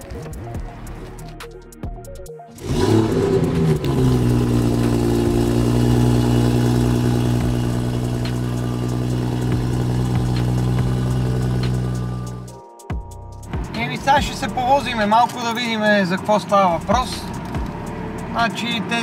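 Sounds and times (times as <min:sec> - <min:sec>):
car engine starting and idling: 0:02.6 - 0:12.6, 0:13.2 - 0:19.0.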